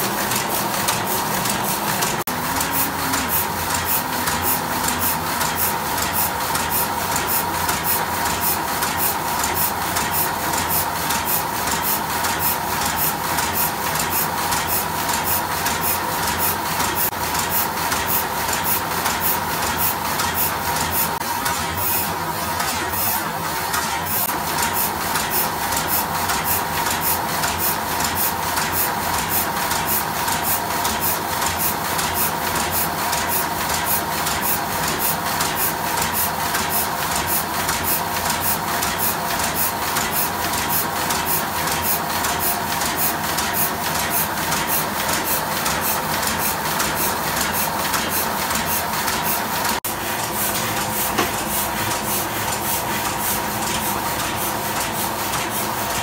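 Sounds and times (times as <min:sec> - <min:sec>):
printing press clattering: 0:00.0 - 0:56.0.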